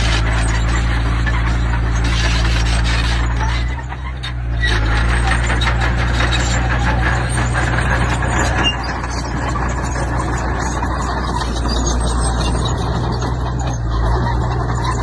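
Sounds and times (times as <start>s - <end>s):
clatter of stone and metal: 0.0s - 15.0s
diesel machine engine running: 0.0s - 15.0s.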